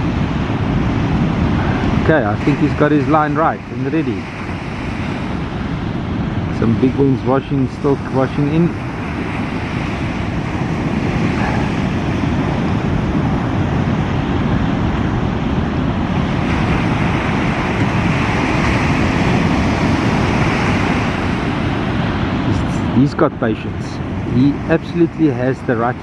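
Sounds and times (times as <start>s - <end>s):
ocean surf breaking: 0.0s - 26.0s
wind rumbling on microphone: 0.0s - 26.0s.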